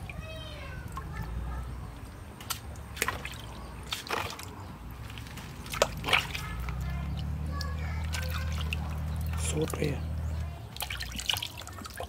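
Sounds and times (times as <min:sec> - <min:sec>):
water splashes and drips: 0:00.0 - 0:12.0.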